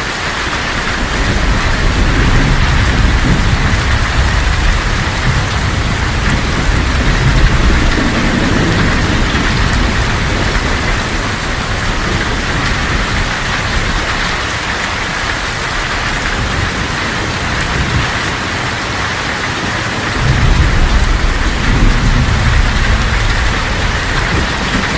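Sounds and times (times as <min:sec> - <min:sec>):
heavy rain on a tin roof: 0:00.0 - 0:24.9
low rolling thunder: 0:00.0 - 0:24.9.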